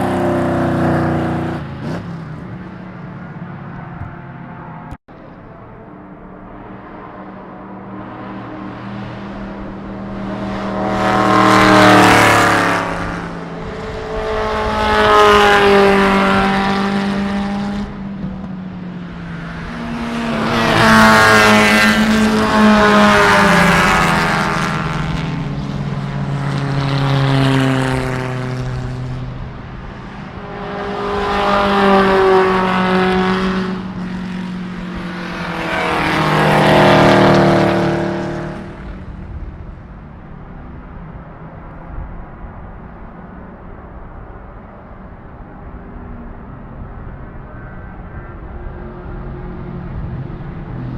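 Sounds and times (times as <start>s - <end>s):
racing cars passing at speed: 0.0s - 50.9s.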